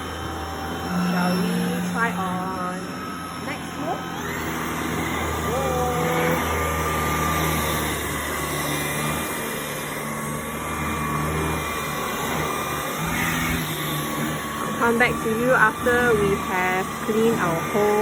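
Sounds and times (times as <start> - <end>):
handheld vacuum motor whining: 0.0 - 18.0.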